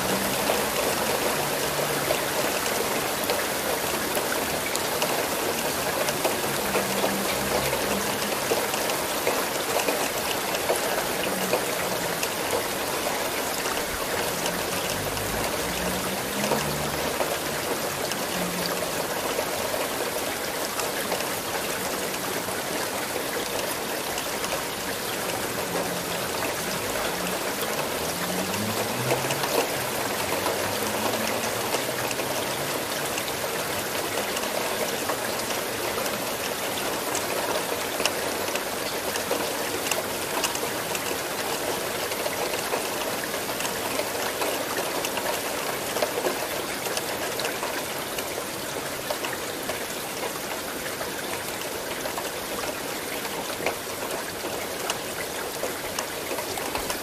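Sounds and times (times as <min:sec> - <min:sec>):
raindrops ticking: 0:00.0 - 0:57.0
steady rain: 0:00.0 - 0:57.0.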